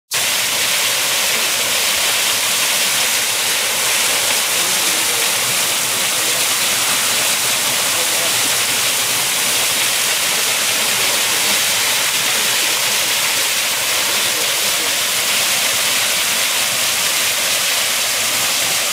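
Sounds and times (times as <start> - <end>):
waterfall rushing: 0.1 - 18.9.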